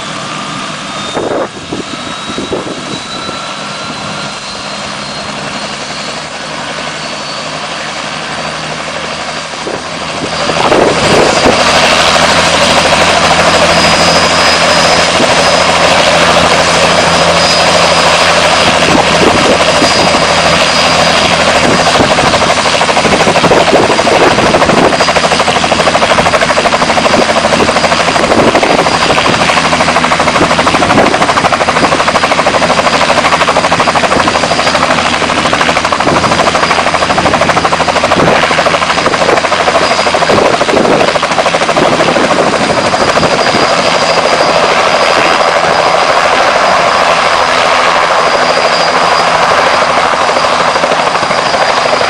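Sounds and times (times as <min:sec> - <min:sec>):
helicopter rotor drone: 0:00.0 - 0:52.0
helicopter turbine whine: 0:00.0 - 0:52.0.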